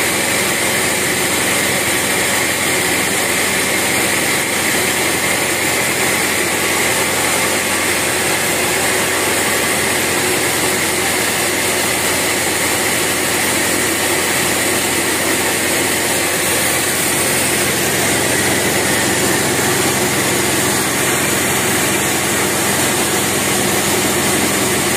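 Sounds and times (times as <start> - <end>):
band saw running: 0.0 - 24.9.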